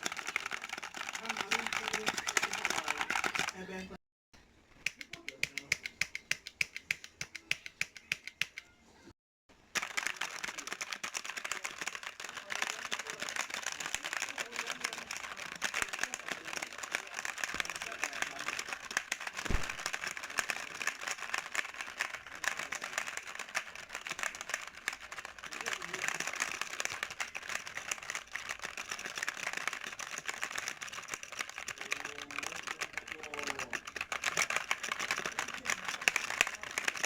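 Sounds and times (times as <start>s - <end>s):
mechanical keyboard typing: 0.0s - 3.6s, 4.9s - 8.7s, 9.8s - 37.0s.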